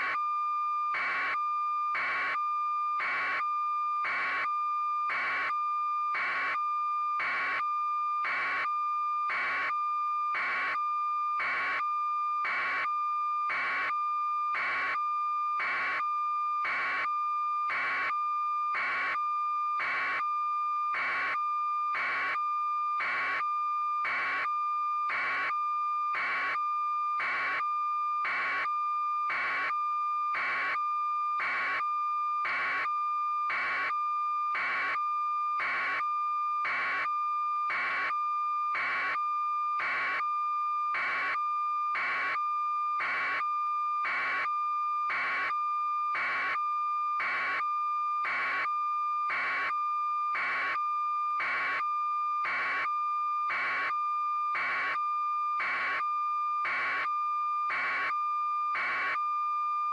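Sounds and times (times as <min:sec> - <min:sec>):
continuous high-pitched tone: 0:00.0 - 0:59.9.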